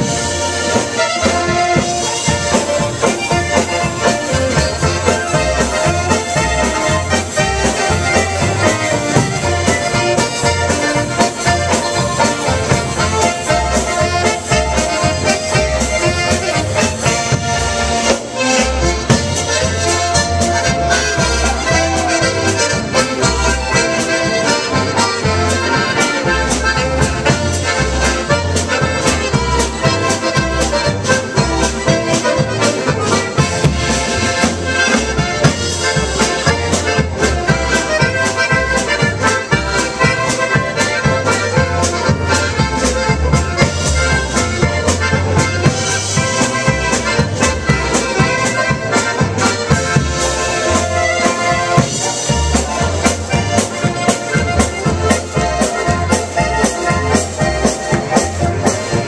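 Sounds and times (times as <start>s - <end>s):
accordions playing: 0.0s - 59.0s
bass line: 0.0s - 59.0s
drum kit beat: 0.0s - 59.0s.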